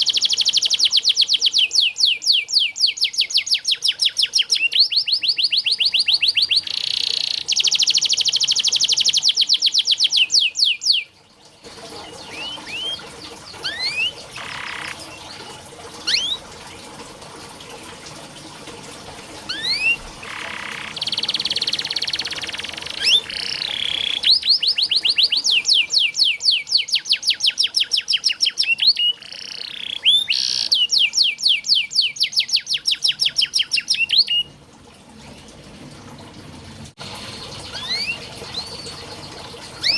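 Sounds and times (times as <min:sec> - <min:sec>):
canary singing trills: 0:00.0 - 0:11.1, 0:12.0 - 0:16.4, 0:19.5 - 0:34.5, 0:37.2 - 0:39.9.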